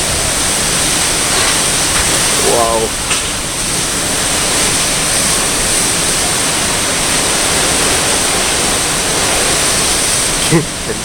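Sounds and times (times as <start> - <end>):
strong wind blowing: 0.0 - 11.0.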